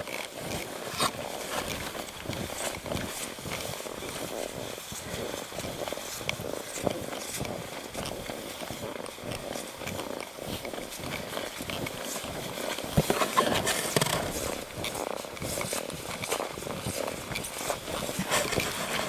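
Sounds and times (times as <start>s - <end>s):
footsteps crunching in snow: 0.0s - 19.0s.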